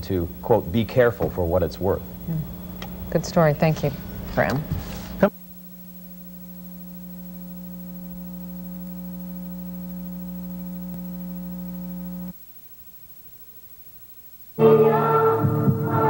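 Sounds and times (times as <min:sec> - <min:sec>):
electrical buzz: 0:00.0 - 0:16.0.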